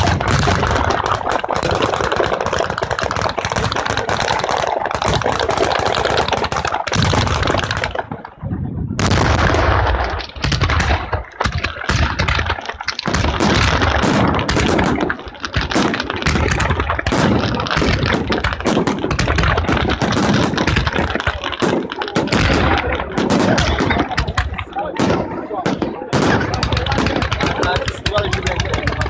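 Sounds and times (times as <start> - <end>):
deep fireworks rumble: 0.0 - 29.0
rapid firecracker reports and crackling: 0.0 - 29.0.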